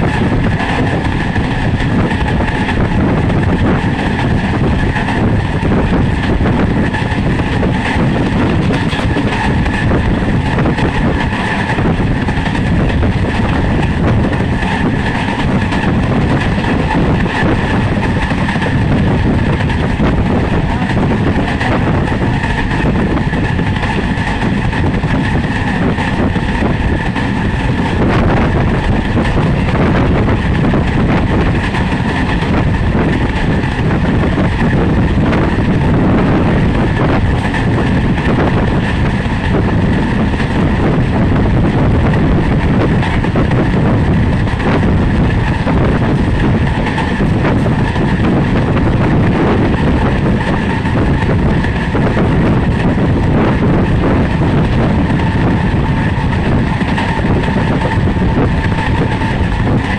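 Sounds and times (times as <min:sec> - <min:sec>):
train wheels running on rails: 0:00.0 - 0:59.9.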